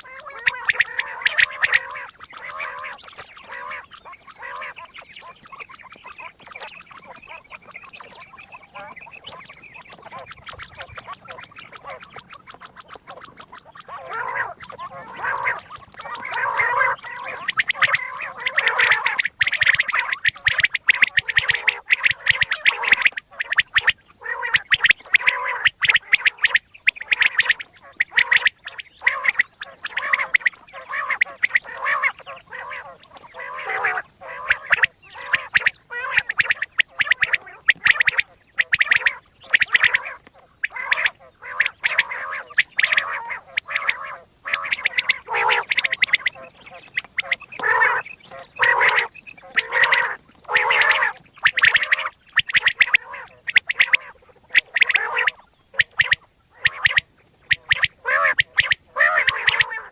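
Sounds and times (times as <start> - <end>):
quail calling: 0.0 - 59.9.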